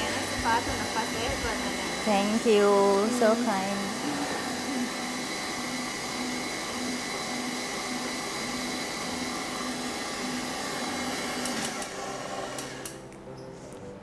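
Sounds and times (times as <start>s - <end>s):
stand mixer whirring: 0.0s - 13.0s.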